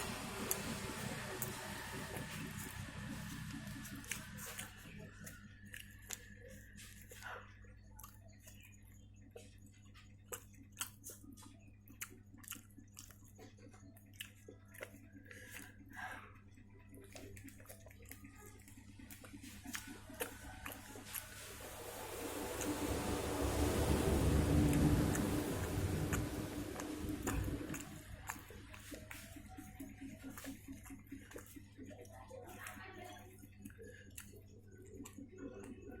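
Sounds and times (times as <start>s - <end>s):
person chewing: 0.0s - 32.8s, 33.4s - 36.0s
faint low hum: 0.0s - 36.0s.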